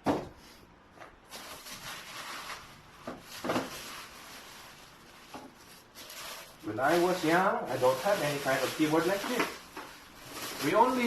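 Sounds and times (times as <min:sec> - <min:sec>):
packaging rustling and scraping: 0:01.2 - 0:11.0.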